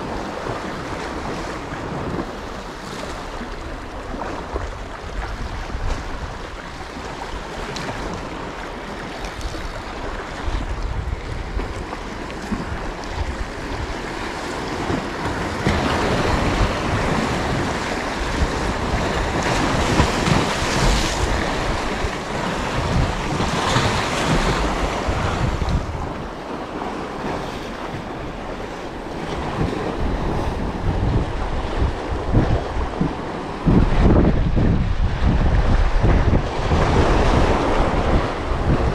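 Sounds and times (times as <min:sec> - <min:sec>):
surf washing on shore: 0:00.0 - 0:38.9
wind buffeting microphone: 0:00.0 - 0:38.9.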